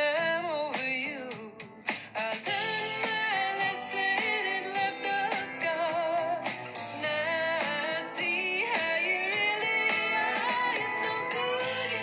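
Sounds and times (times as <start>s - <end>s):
song with singing: 0.0s - 12.0s.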